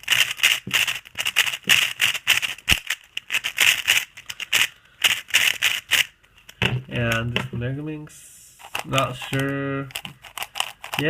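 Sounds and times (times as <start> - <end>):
plastic puzzle clicking: 0.0 - 7.5, 8.7 - 11.0.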